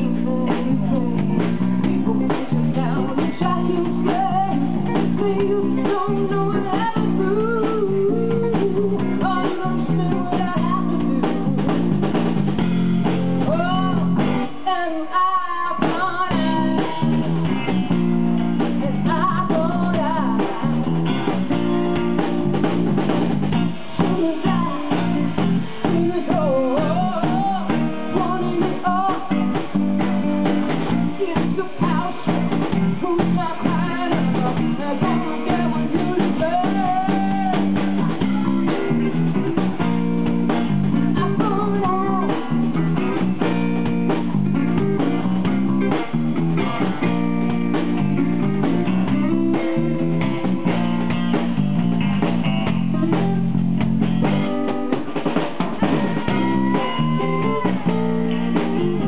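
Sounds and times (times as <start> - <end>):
electric guitars bending notes: 0.0 - 14.6, 16.3 - 59.0
live band playing: 0.0 - 59.0.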